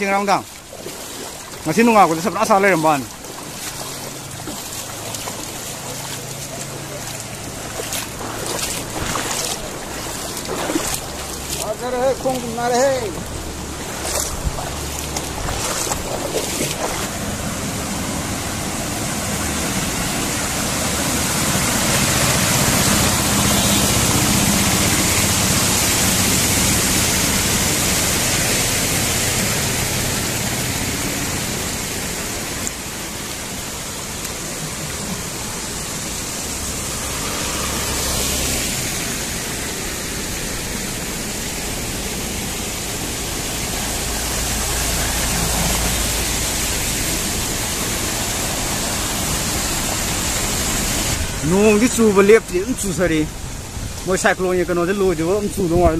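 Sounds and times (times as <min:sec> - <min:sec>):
floodwater rushing and churning: 0:00.0 - 0:55.9.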